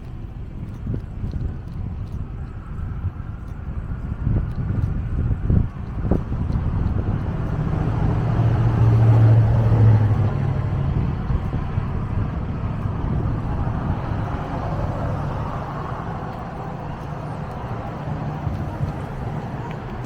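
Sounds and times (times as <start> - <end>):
car passing: 0.0 - 20.0
steady road noise: 0.0 - 20.0.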